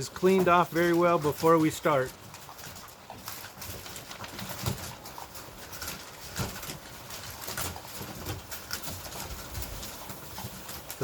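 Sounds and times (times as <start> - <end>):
puppies crunching dry kibble: 0.0 - 11.0.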